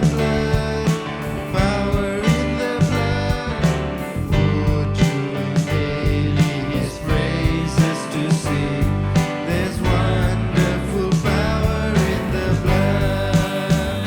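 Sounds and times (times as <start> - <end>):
drums beating: 0.0 - 14.0
worship band playing: 0.0 - 14.0.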